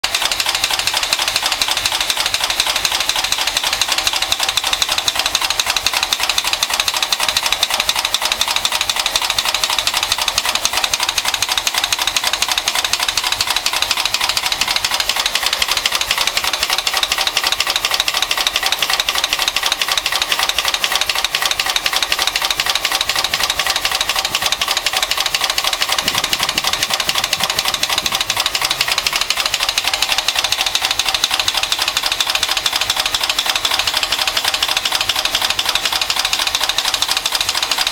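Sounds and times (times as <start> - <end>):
car engine knocking: 0.0 - 37.9.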